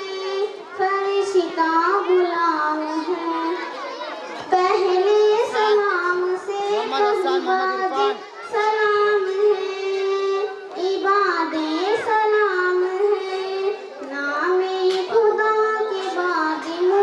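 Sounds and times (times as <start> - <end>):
girl singing into a microphone: 0.0 - 17.0.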